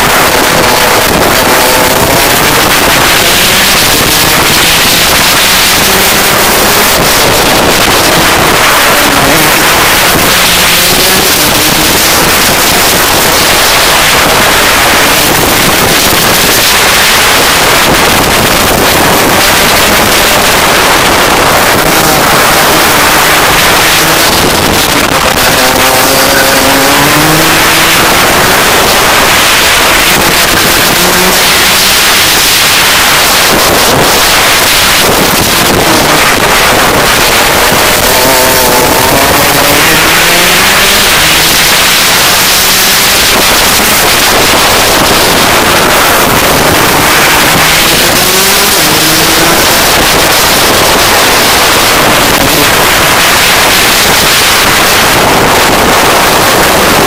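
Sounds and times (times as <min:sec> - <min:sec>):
kart engine accelerating: 0:00.0 - 0:57.0
wind rush: 0:00.0 - 0:57.0.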